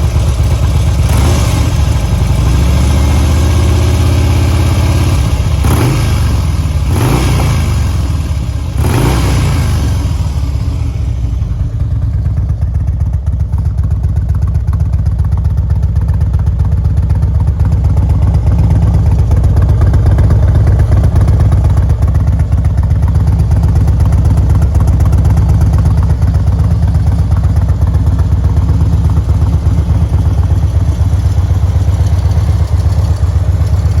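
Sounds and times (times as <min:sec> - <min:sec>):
motorcycle engine revving and idling: 0:00.0 - 0:34.0.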